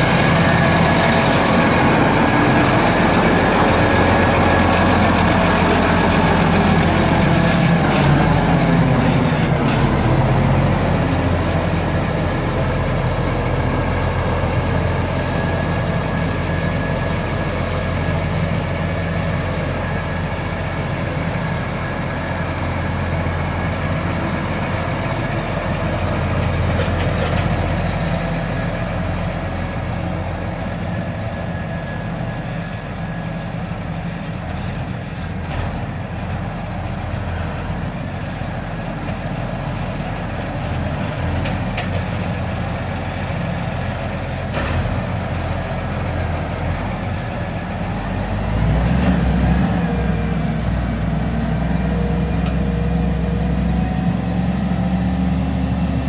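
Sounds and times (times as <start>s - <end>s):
tractor diesel engine drone: 0.0s - 56.0s.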